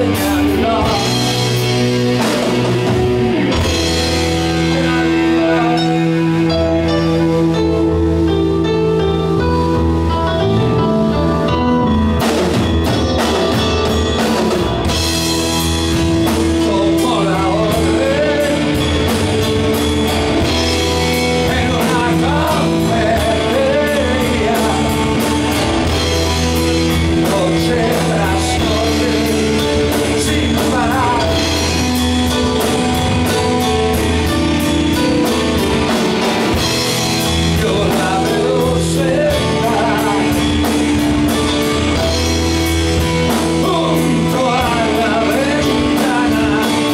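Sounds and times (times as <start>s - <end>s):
man singing: 0.0s - 7.9s, 15.9s - 42.1s, 43.3s - 46.9s
bass guitar: 0.0s - 46.9s
keyboard chords: 0.0s - 46.9s.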